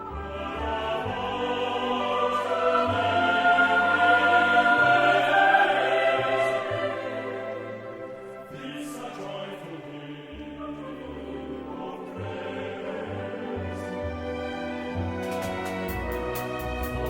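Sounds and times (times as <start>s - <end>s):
choir singing long held notes: 0.0s - 17.0s.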